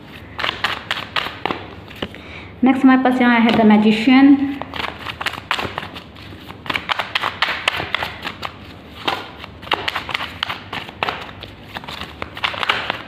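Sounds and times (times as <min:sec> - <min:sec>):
cards being shuffled: 0:00.0 - 0:02.2, 0:04.5 - 0:13.0.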